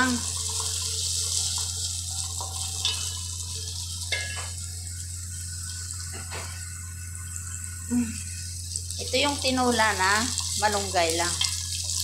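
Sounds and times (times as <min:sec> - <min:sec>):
exhaust fan humming: 0:00.0 - 0:12.0
onions sizzling in hot oil: 0:00.0 - 0:12.0.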